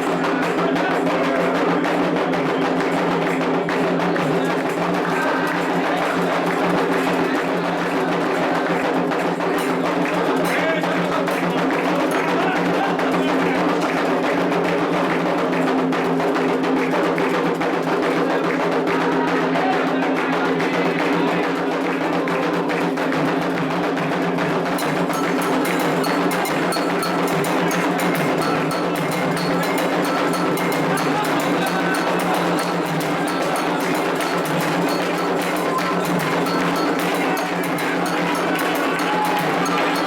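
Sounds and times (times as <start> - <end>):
hand drums and percussion: 0.0 - 40.0.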